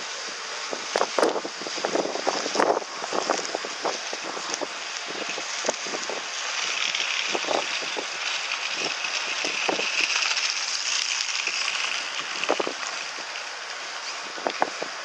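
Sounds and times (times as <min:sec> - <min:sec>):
wind on microphone: 0:00.6 - 0:10.4, 0:11.5 - 0:13.4, 0:14.1 - 0:15.0.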